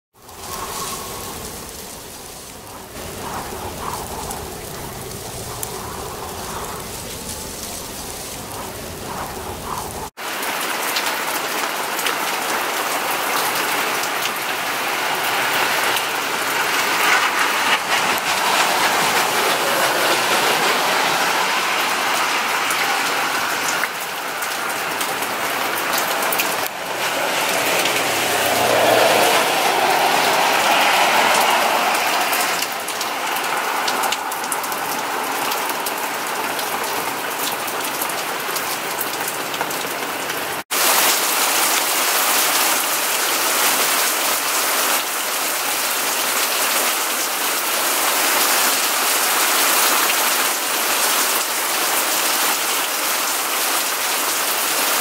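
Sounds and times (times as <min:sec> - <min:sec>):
heavy rain on a flooded street: 0:00.1 - 0:55.0.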